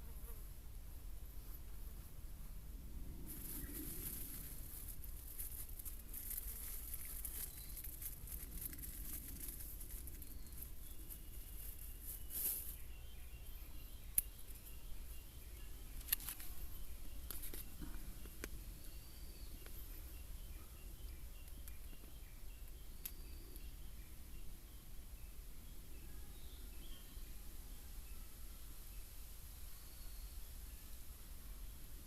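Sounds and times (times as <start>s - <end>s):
faint bird chirping: 0.0s - 32.0s.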